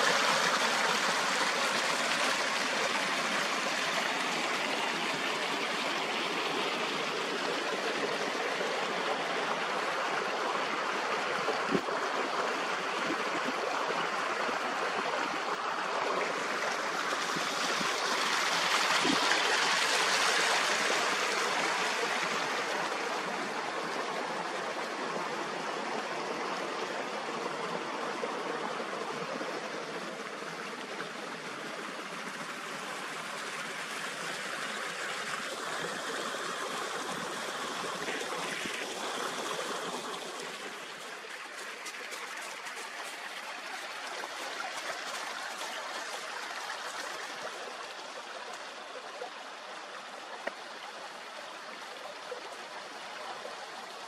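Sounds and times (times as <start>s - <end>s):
forest stream rushing: 0.0s - 54.0s.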